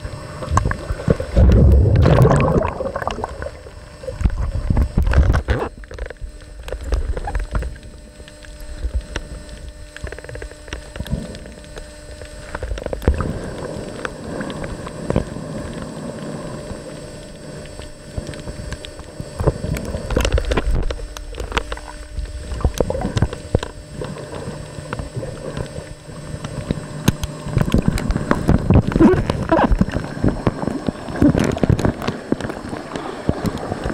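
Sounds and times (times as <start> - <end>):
faint steady hum: 0.0 - 33.9
underwater water rushing and bubbling: 0.0 - 33.9.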